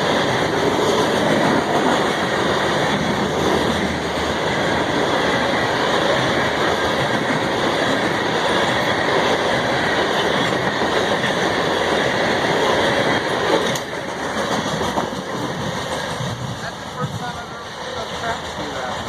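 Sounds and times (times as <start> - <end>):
train wheels clattering on track: 0.0 - 19.0.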